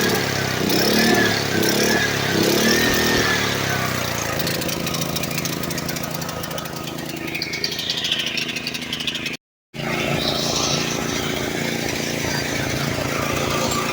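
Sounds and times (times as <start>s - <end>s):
generator engine running: 0.0s - 13.9s.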